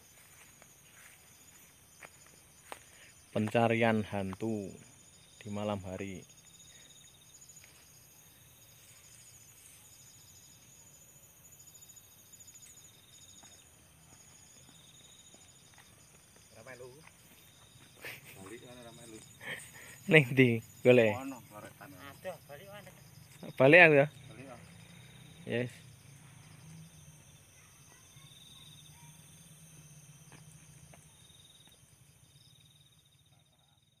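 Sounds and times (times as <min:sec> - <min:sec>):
crickets trilling: 0:00.0 - 0:34.0
night insects chirping: 0:00.0 - 0:34.0.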